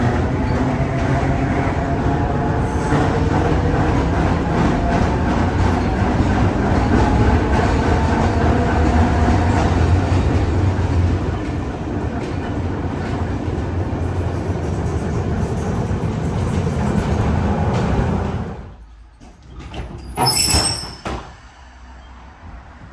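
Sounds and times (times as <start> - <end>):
tram rumbling on rails: 0.0 - 22.9.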